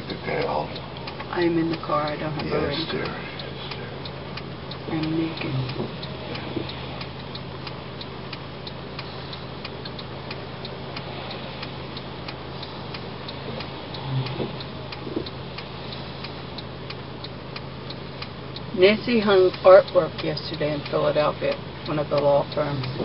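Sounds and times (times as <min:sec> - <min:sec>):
car engine humming: 0:00.0 - 0:23.0
car indicator ticking: 0:00.0 - 0:23.0.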